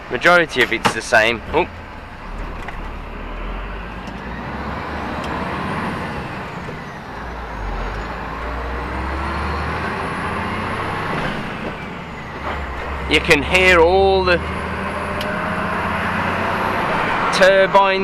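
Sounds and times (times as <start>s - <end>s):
truck engine rumble: 0.0s - 18.0s.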